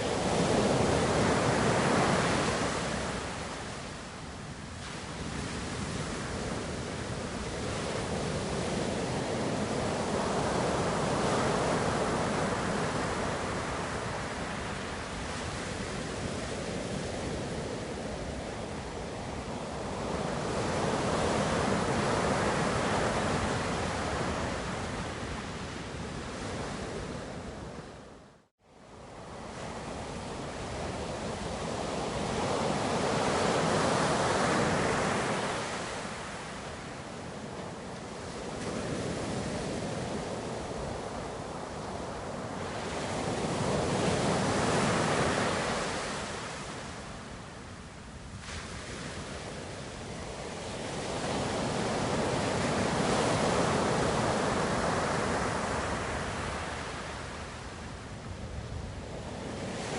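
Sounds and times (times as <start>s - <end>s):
waves breaking on shore: 0.0s - 28.1s, 28.8s - 59.9s.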